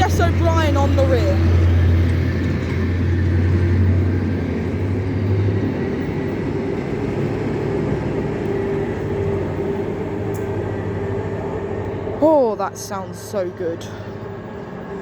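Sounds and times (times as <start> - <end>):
locomotive mechanical drone: 0.0 - 15.0.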